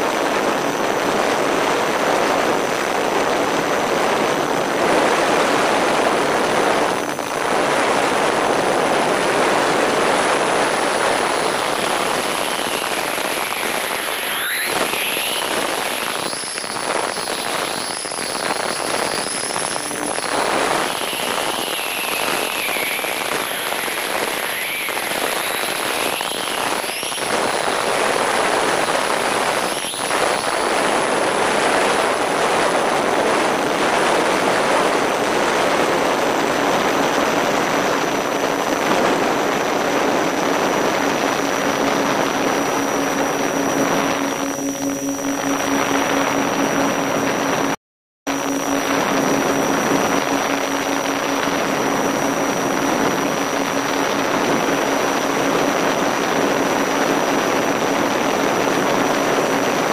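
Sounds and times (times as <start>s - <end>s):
electric motor and propeller whine: 0.0s - 59.9s
wind rushing over microphone: 0.0s - 59.9s.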